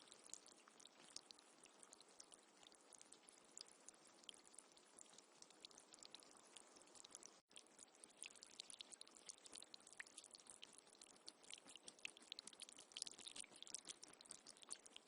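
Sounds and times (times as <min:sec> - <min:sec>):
water trickling and dripping: 0:00.0 - 0:15.0.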